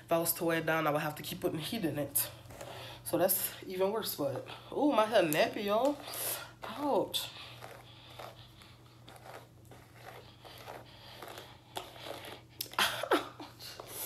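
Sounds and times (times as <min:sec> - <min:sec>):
hairbrush rasping through hair: 0:02.5 - 0:14.0.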